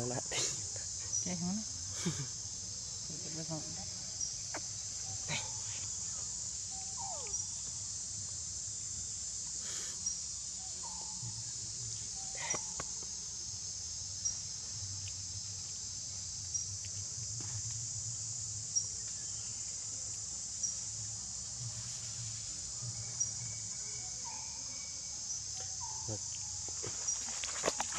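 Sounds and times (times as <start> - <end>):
insect chirps: 0.0 - 27.9
insects chorus: 0.0 - 27.9.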